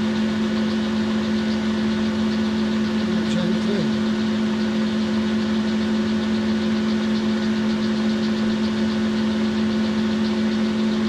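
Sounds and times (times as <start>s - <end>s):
lathe humming: 0.0s - 11.0s.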